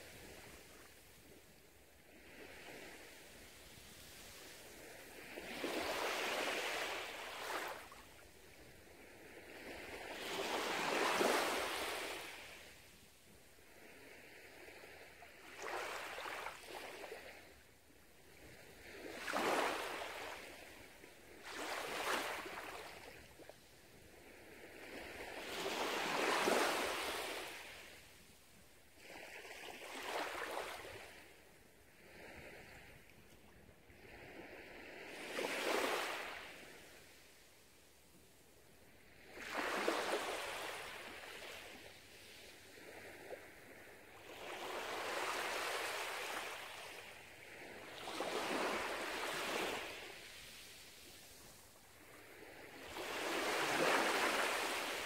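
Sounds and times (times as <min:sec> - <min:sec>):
small waves lapping on sand: 0:00.0 - 0:55.0.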